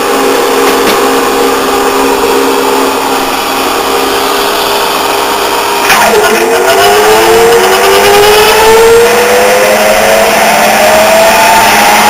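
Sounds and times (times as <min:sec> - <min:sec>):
lathe motor humming: 0:00.0 - 0:12.0.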